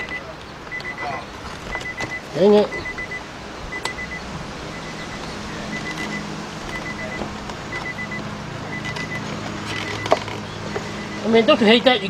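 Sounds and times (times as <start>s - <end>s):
faint high electronic beeps: 0.0s - 12.0s.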